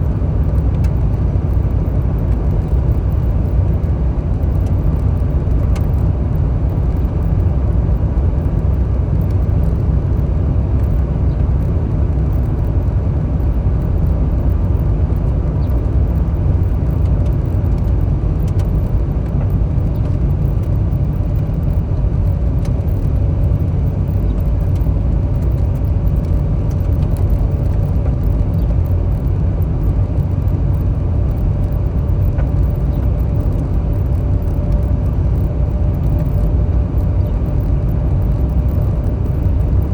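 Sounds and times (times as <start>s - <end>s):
car road and tyre noise: 0.0s - 39.9s.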